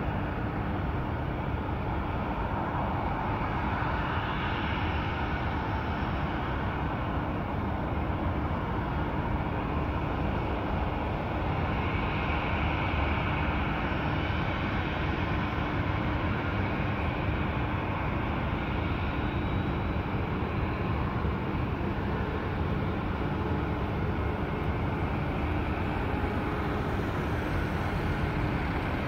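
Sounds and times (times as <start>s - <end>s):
distant jet engines roaring: 0.0s - 29.0s.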